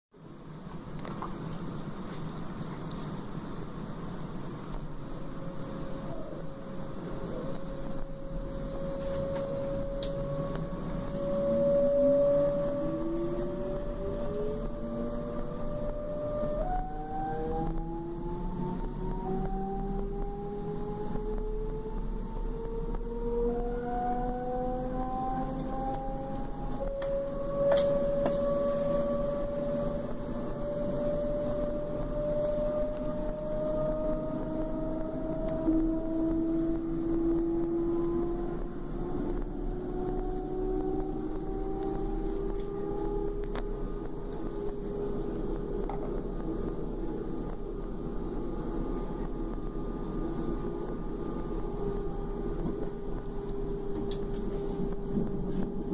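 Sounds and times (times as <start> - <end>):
train converter high whine: 0.2 - 55.9
train running rumble: 0.2 - 55.9
rising lower tone: 5.3 - 55.9.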